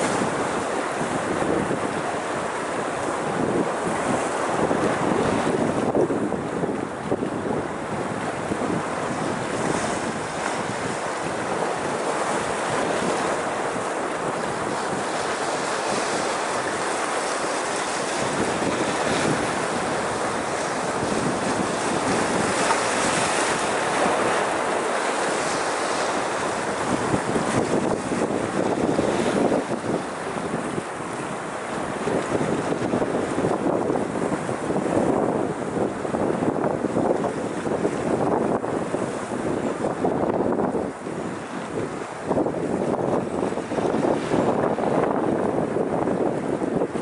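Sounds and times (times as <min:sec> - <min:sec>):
sea waves washing over rocks: 0:00.0 - 0:47.0
wind on microphone: 0:00.0 - 0:47.0.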